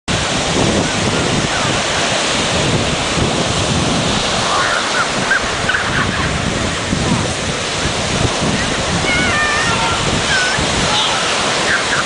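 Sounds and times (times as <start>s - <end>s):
surf breaking on beach: 0.1s - 12.0s
wind buffeting microphone: 0.1s - 12.0s.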